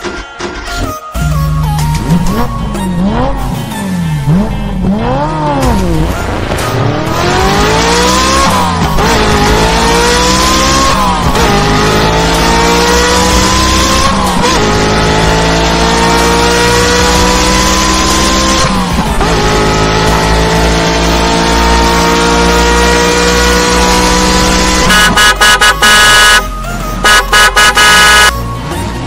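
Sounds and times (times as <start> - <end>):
car engine accelerating: 1.3 - 29.0.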